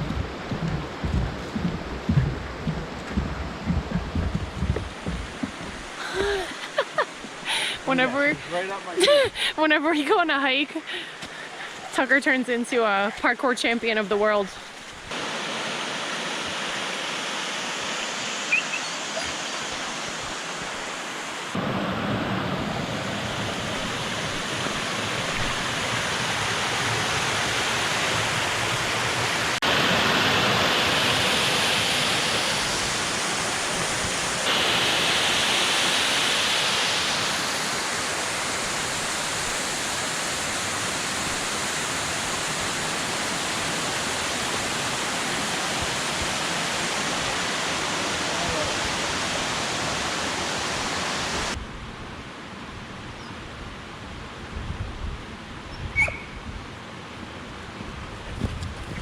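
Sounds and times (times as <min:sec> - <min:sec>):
creek and waterfalls rushing: 0:00.0 - 0:51.6.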